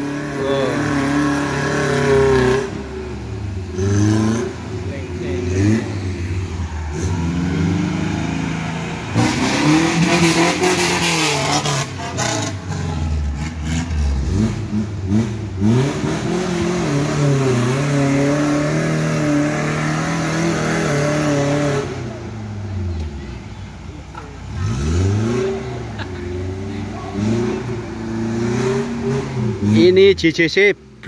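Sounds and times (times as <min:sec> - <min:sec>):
off-road engines revving: 0:00.0 - 0:31.0.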